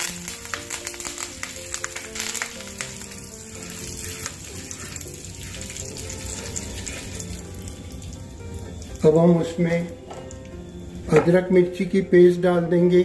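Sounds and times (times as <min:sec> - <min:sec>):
seeds sizzling in hot oil: 0:00.0 - 0:11.1.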